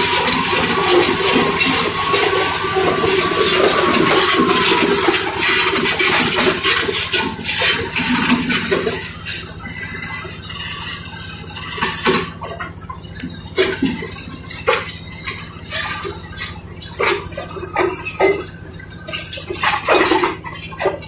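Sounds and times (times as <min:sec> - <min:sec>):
bulldozer diesel engine running: 0:00.0 - 0:21.0
rubble grinding: 0:00.0 - 0:21.0
steel tracks clanking: 0:00.0 - 0:21.0.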